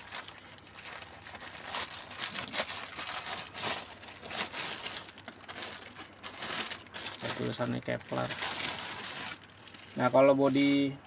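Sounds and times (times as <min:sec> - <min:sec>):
plastic wrapping crinkling: 0:00.0 - 0:10.9.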